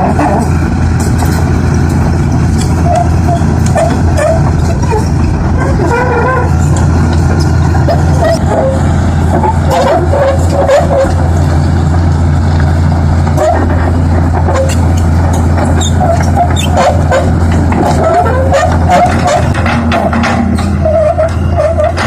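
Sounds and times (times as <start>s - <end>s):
heavy truck engine running: 0.0s - 22.0s.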